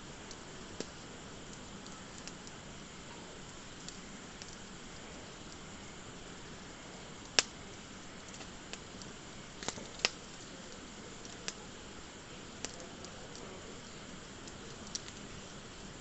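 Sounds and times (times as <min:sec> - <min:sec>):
wood crackling pops: 0:00.0 - 0:16.0
wood fire hissing: 0:00.0 - 0:16.0.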